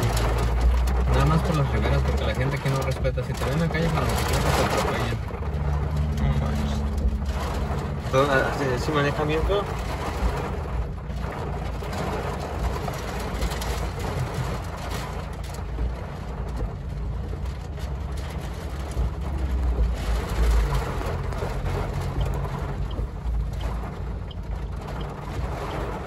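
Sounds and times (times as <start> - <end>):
heavy rain on a car roof: 0.0 - 26.0
low rumble from car: 0.0 - 26.0.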